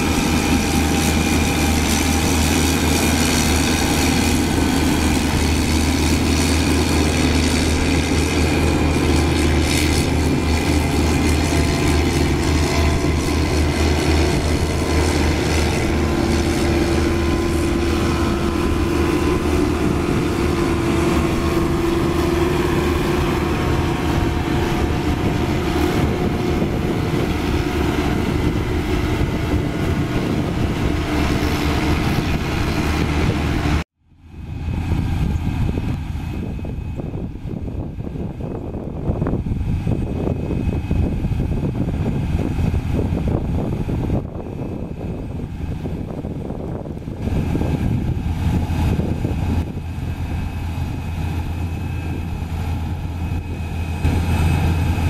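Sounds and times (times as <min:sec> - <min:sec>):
heavy low engine rumble: 0:00.0 - 0:55.0
steady humming engine drone: 0:00.0 - 0:55.0.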